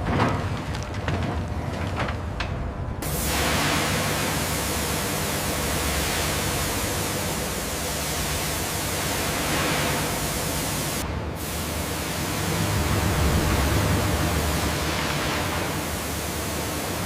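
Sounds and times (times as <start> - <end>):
loud rushing hiss: 3.0 - 17.0.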